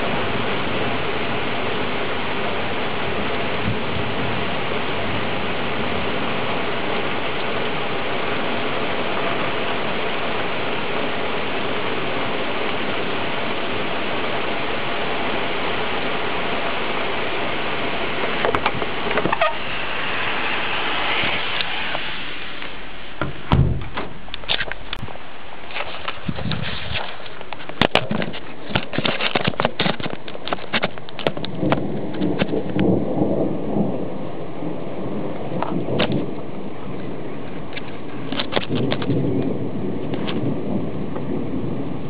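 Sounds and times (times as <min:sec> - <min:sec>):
steady rain hissing: 0:00.0 - 0:42.0.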